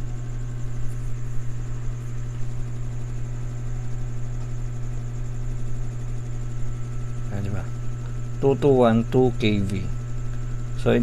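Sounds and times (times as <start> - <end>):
low electrical mains hum: 0.0 - 11.0.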